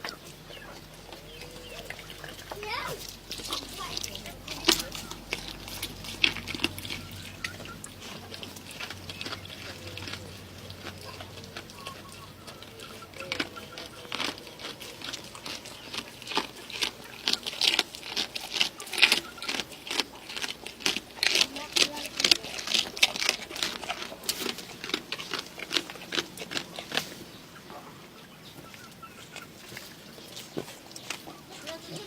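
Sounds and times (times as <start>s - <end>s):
goat chewing with crunches: 0.0s - 32.0s.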